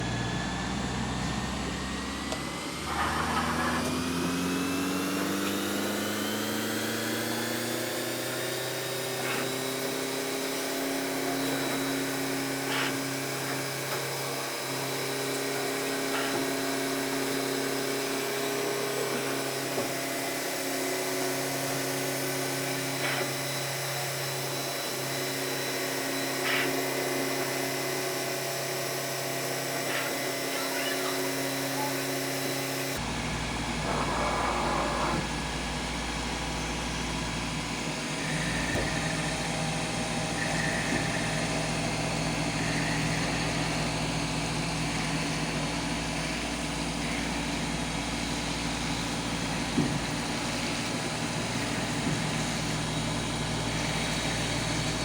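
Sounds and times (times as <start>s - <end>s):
milling machine spindle whine: 0.0s - 55.0s.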